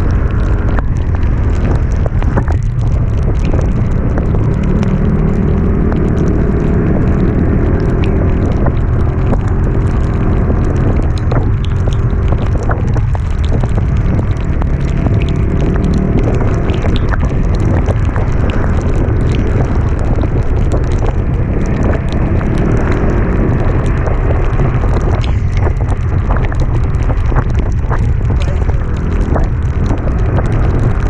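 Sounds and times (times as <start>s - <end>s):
vehicle engine running: 0.0s - 31.0s
wind buffeting microphone: 0.0s - 31.0s.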